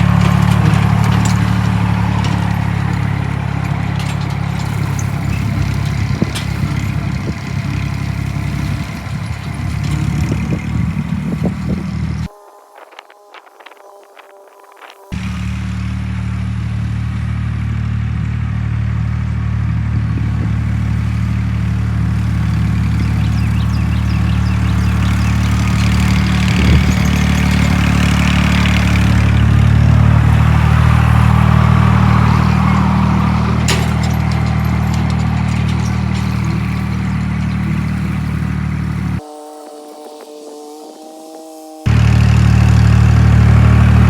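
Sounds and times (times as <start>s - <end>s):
tractor diesel engine running: 0.0s - 12.3s, 14.8s - 40.2s, 41.8s - 44.0s.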